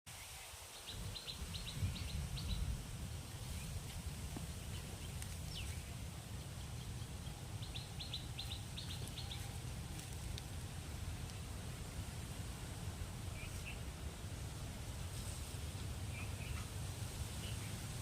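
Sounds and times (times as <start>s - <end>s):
small birds chirping: 0.1s - 11.9s, 13.2s - 14.1s, 15.1s - 18.0s
steady low rumble: 1.0s - 18.0s.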